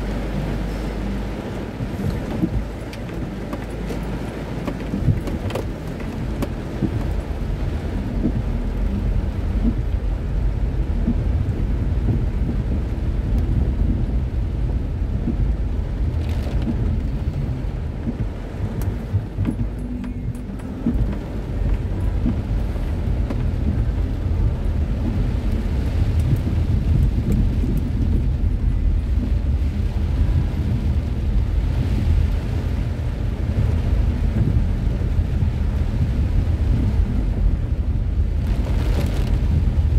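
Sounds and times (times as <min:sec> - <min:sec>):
heavy rain drumming on car roof: 0:00.0 - 0:39.9
moving car rumble: 0:00.0 - 0:39.9.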